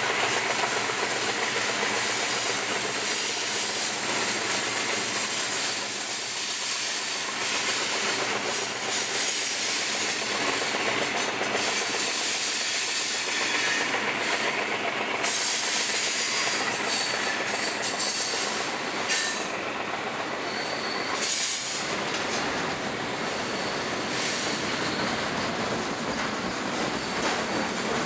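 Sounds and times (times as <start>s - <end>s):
train wheels clickety-clack: 0.0s - 28.0s
high wheel squeal: 1.5s - 14.6s, 15.2s - 19.7s, 20.3s - 22.0s, 23.2s - 25.3s, 26.1s - 27.8s.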